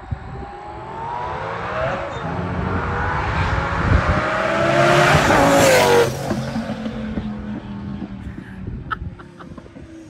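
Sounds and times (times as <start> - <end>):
sports car engine approaching: 0.0 - 10.0.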